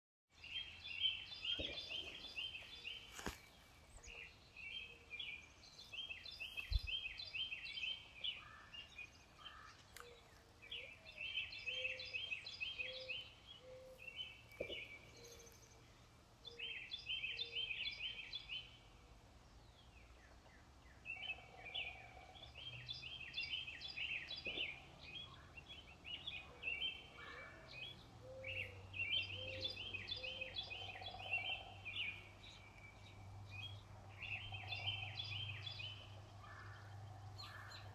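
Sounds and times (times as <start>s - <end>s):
lower bird call of repeated notes: 0.4s - 15.8s, 21.1s - 37.9s.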